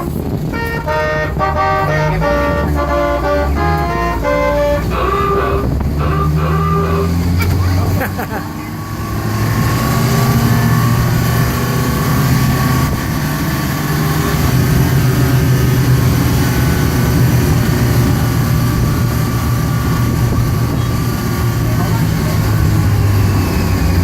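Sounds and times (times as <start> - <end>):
road noise: 0.0 - 24.0
tram engine hum: 0.0 - 24.0.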